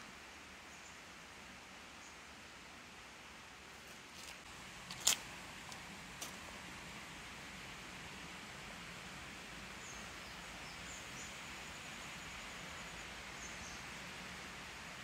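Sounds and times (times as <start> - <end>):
soft steady hiss: 0.0 - 15.0.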